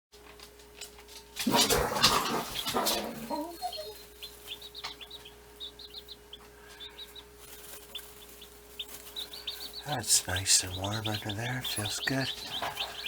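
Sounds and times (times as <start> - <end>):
chicks peeping: 0.2 - 13.0
faint steady hum: 0.2 - 13.0.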